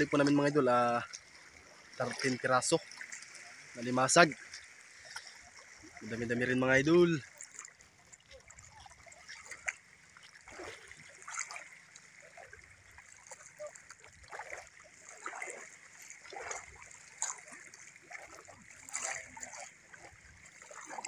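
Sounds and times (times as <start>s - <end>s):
wading splashes in seawater: 0.0s - 21.0s.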